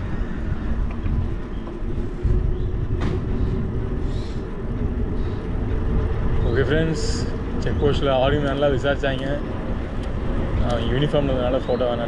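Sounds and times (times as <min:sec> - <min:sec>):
bicycle road noise: 0:00.0 - 0:12.0
distant traffic engine hum: 0:00.0 - 0:12.0
wind rumbling on microphone: 0:00.0 - 0:12.0.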